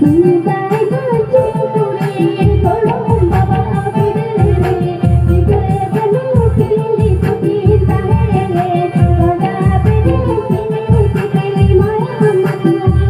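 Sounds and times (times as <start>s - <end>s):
amplified band track: 0.0s - 13.0s
heavy drum beat: 0.0s - 13.0s
person singing into a microphone: 0.0s - 13.0s.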